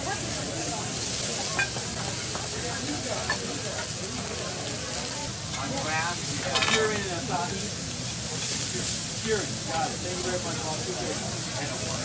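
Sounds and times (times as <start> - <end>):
steaks sizzling on griddle: 0.0 - 12.0
metal utensils clinking on griddle: 1.1 - 4.2, 5.0 - 11.7.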